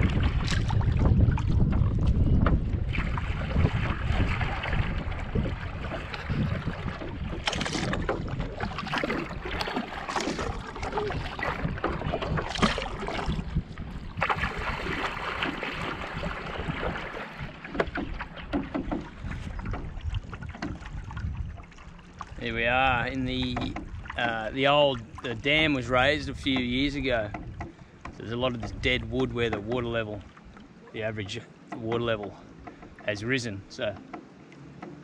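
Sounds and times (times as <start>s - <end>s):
paddle strokes splashing: 0.0s - 35.0s
water lapping against hull: 0.0s - 35.0s.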